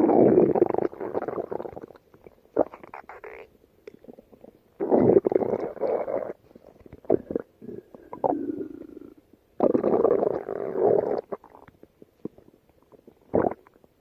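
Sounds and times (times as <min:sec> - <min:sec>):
stomach growling: 0:00.0 - 0:13.8
stomach gurgles: 0:00.0 - 0:14.0.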